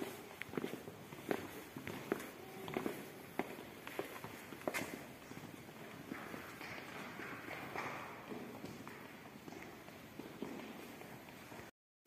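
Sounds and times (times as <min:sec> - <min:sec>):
footsteps on hard path: 0:00.0 - 0:11.7.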